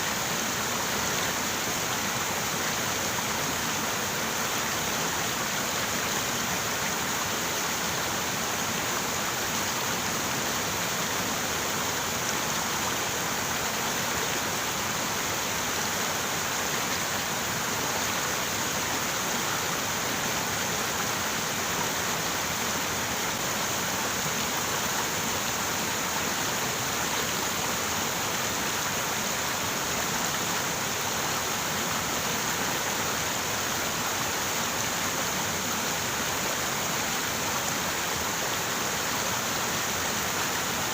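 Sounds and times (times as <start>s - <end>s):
river water over rocks: 0.0s - 40.9s.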